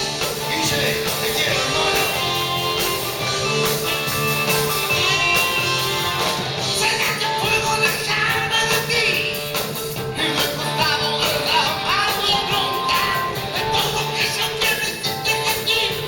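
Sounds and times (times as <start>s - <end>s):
hard rock band playing: 0.0s - 16.0s
person singing: 0.0s - 16.0s.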